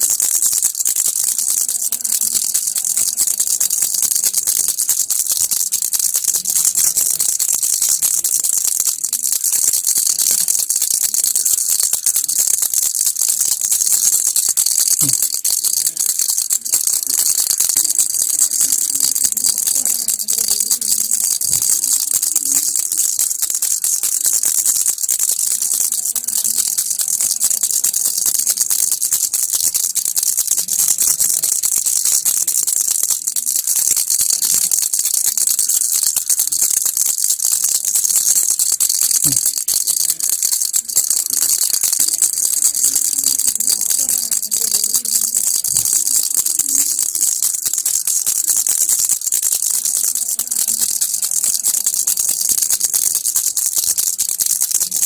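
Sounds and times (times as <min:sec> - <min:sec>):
baby rattle shaking: 0:00.0 - 0:55.0.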